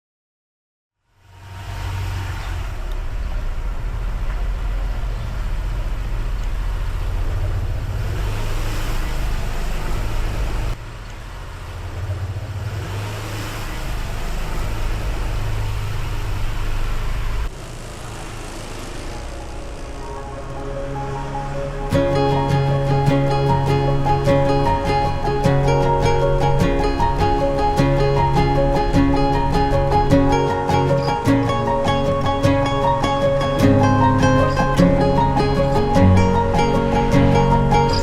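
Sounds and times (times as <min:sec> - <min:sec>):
scooter engine rumble: 0:01.2 - 0:38.0.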